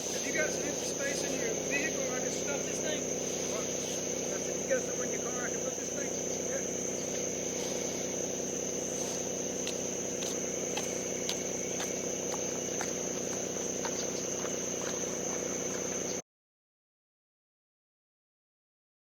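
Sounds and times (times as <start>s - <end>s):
engine idling: 0.0s - 16.2s
high insect drone: 0.0s - 16.2s.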